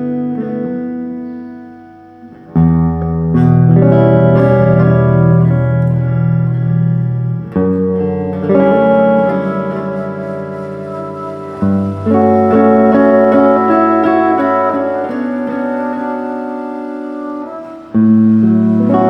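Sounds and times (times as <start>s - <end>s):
guitar chords: 0.0s - 19.0s.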